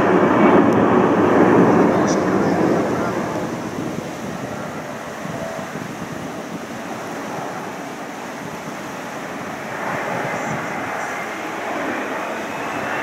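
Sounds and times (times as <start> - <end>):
distant jet airliner rushing: 0.0 - 13.0.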